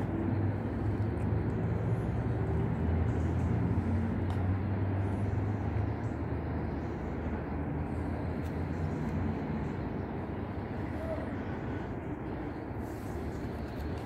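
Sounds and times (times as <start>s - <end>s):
low background hum and rumble: 0.0s - 14.0s.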